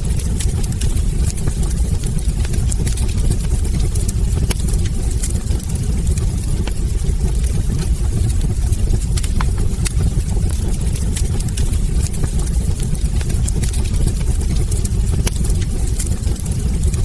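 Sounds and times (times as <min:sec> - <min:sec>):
burning wood crackling and popping: 0:00.0 - 0:17.0
flames rumbling: 0:00.0 - 0:17.0.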